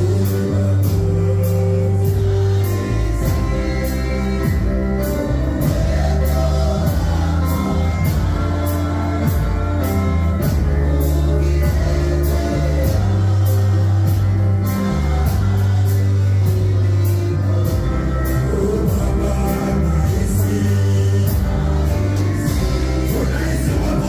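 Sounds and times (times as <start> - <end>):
backing vocalists singing: 0.0 - 24.0
heavy bass and steady beat: 0.0 - 24.0
keyboard: 0.0 - 24.0
lead singer singing: 0.0 - 24.0.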